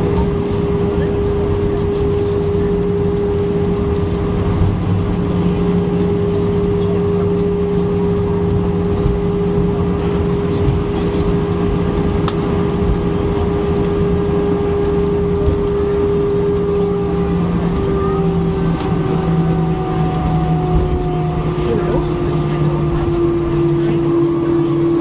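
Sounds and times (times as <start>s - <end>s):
constant hum: 0.0s - 25.0s
jet engine drone: 0.0s - 25.0s
low rumble: 0.0s - 25.0s.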